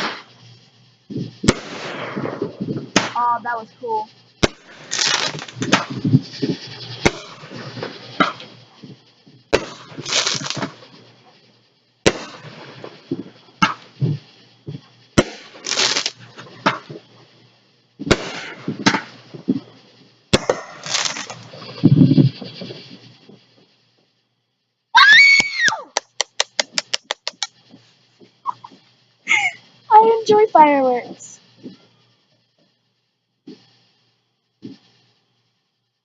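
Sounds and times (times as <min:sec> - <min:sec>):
fireworks bangs and crackling: 0:00.0 - 0:24.1, 0:24.9 - 0:32.0, 0:33.4 - 0:35.4.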